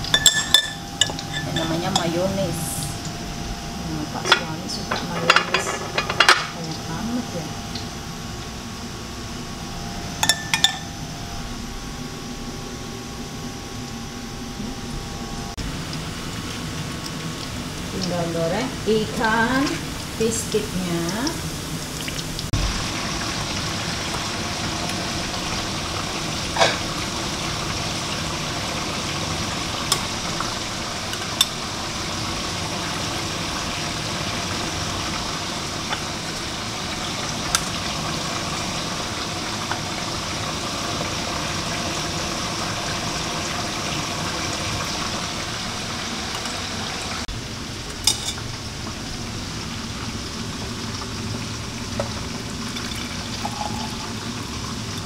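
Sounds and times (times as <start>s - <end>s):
food sizzling in hot oil: 0.0s - 12.8s, 13.6s - 55.0s.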